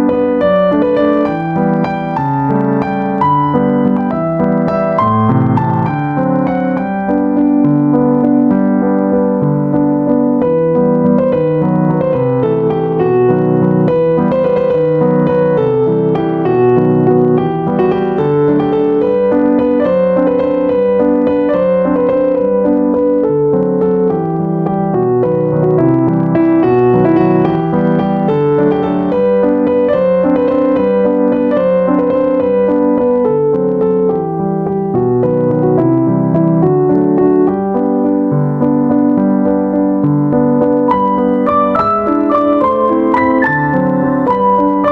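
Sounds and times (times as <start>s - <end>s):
gentle piano music: 0.0s - 44.9s.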